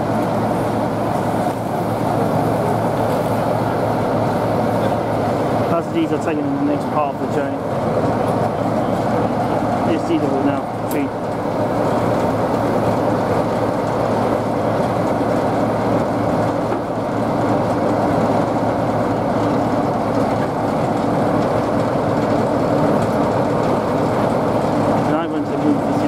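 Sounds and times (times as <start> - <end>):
diesel locomotive engine idling: 0.0 - 26.0.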